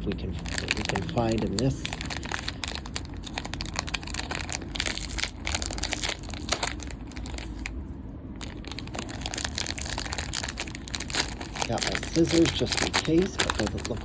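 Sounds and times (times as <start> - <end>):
plastic wrapper crinkling: 0.0 - 7.8, 8.4 - 14.0.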